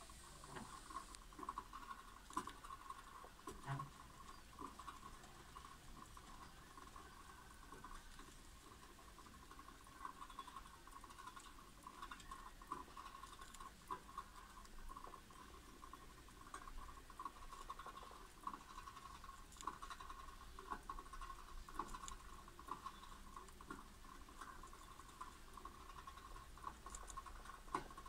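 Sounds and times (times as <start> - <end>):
hamsters chewing: 0.0 - 28.0.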